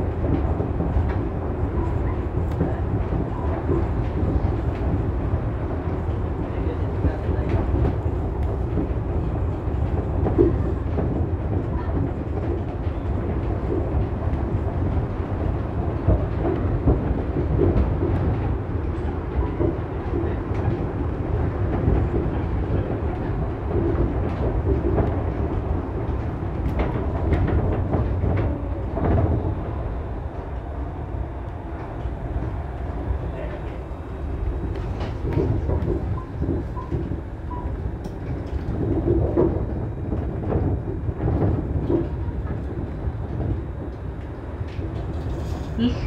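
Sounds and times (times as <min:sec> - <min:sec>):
monorail car rumbling and rattling: 0:00.0 - 0:46.0.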